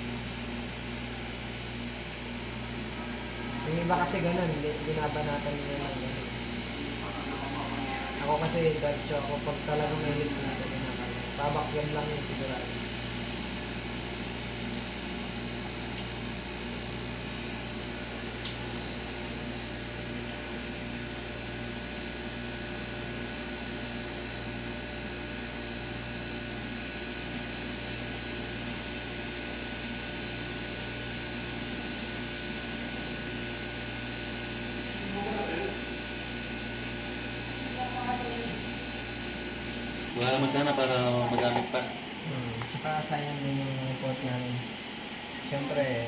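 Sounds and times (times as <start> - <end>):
steady machine hum: 0.0 - 46.0.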